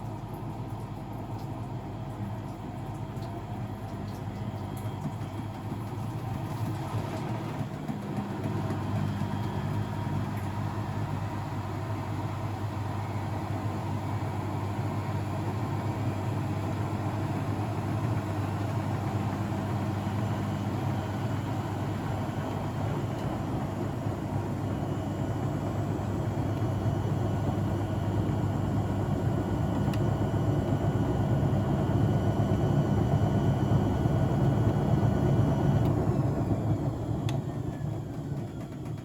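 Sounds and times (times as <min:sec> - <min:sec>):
washing machine drum motor running: 0:00.0 - 0:39.0.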